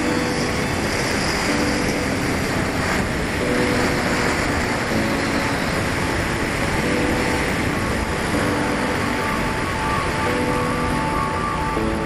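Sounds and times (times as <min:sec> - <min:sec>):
faint background music: 0:00.0 - 0:12.0
rushing airflow noise: 0:00.0 - 0:12.0.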